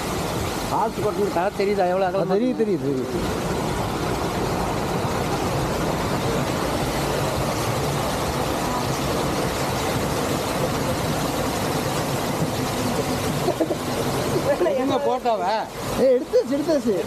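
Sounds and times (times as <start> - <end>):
small waterfall splashing into river: 0.0 - 17.0.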